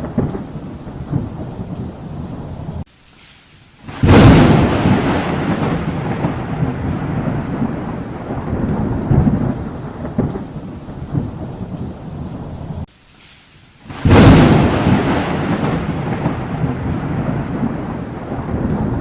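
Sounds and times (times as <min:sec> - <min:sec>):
thunder clap and rumble: 0:00.0 - 0:02.8, 0:03.9 - 0:12.9, 0:13.9 - 0:19.0.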